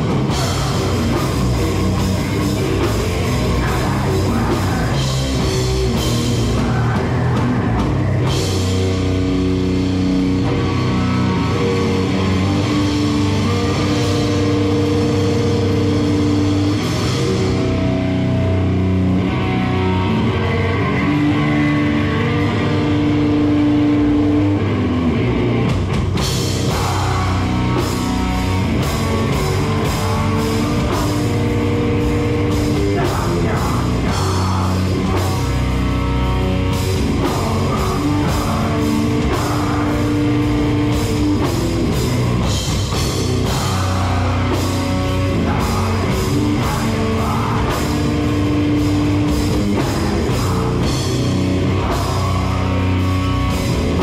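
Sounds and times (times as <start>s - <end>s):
drum kit with cymbals: 0.0s - 19.9s, 25.4s - 54.0s
electric guitar ringing: 0.0s - 54.0s
heavy metal band playing: 0.0s - 54.0s.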